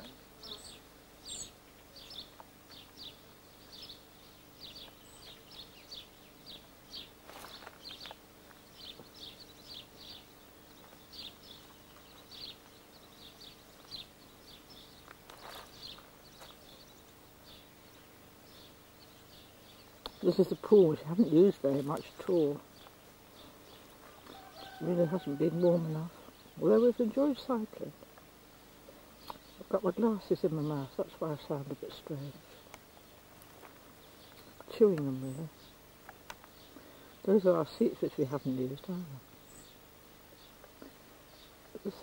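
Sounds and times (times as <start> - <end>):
small bird chirping: 0.0 - 42.0.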